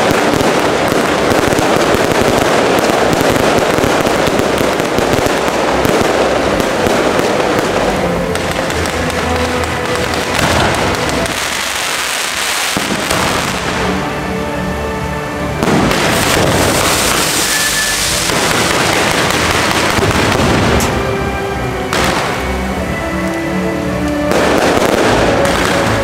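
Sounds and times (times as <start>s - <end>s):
fireworks launching and bursting: 0.0s - 26.0s.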